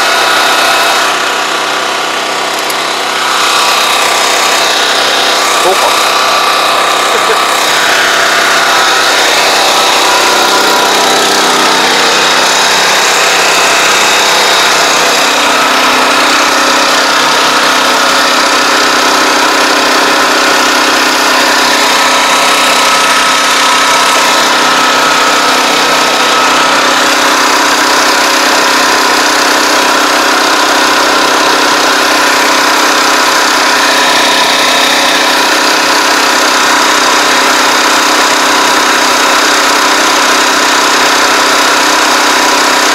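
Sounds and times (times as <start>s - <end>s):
machine engine running loudly: 0.0s - 42.9s.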